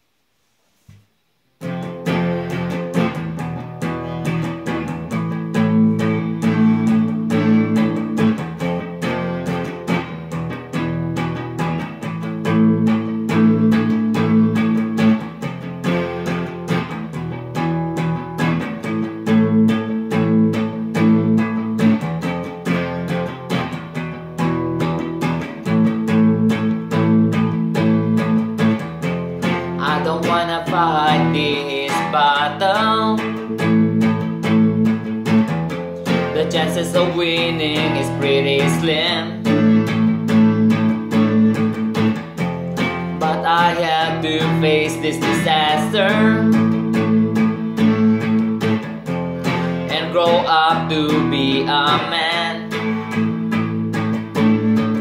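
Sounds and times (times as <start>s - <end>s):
electric guitar picked notes: 1.6s - 55.0s.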